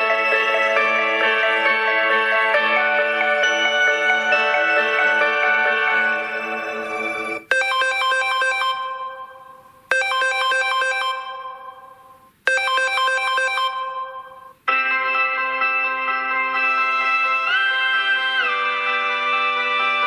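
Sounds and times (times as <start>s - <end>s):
bright keyboard-like ringtone notes: 0.0s - 20.0s
phone ringtone: 0.0s - 20.0s.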